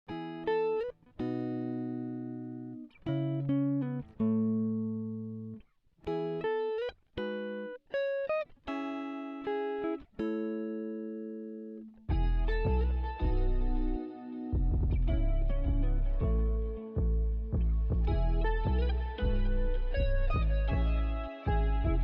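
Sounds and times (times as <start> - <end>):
plucked guitar chords: 0.1 - 22.0.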